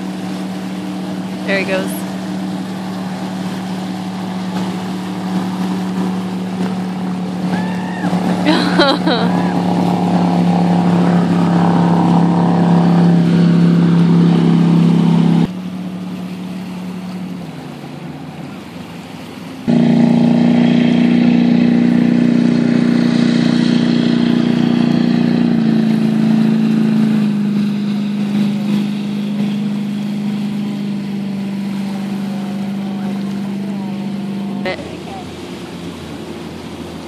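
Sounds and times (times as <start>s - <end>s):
jet boat engine: 0.0s - 37.0s.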